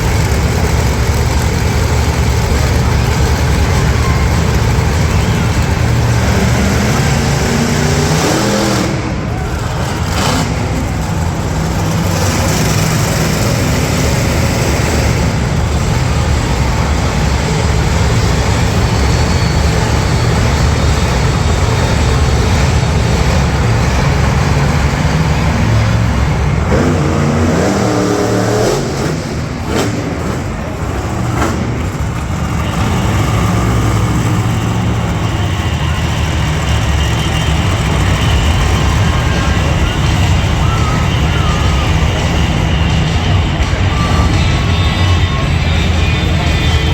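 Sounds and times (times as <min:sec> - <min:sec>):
monster truck engine rumbling: 0:00.0 - 0:46.9.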